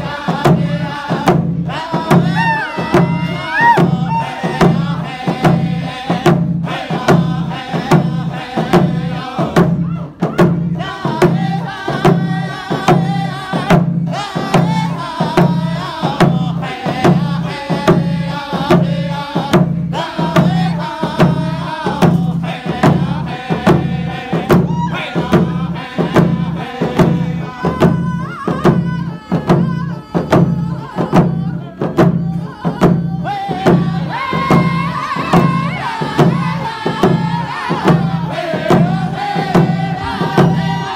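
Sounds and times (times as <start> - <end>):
frame drums beating: 0.0 - 40.9
men singing together: 0.0 - 40.9.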